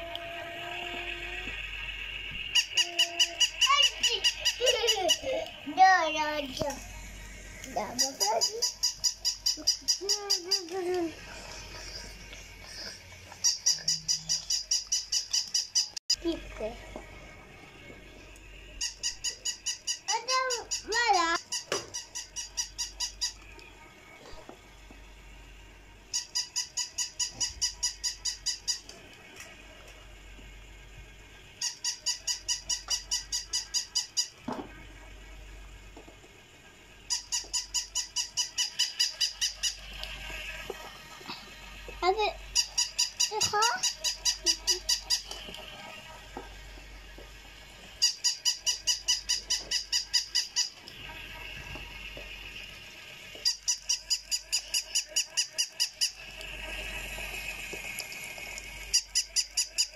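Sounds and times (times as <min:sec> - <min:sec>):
toy electronic chirps: 0:00.0 - 0:16.4, 0:18.7 - 0:23.6, 0:26.0 - 0:29.0, 0:31.5 - 0:34.5, 0:37.0 - 0:59.9.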